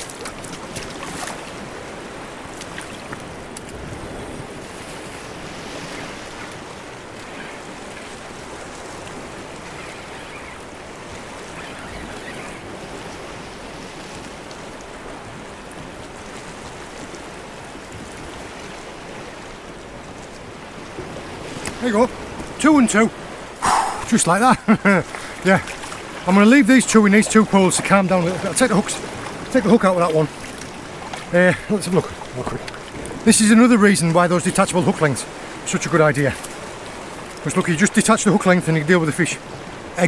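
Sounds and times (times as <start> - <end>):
waves washing on rocky shore: 0.0 - 40.0.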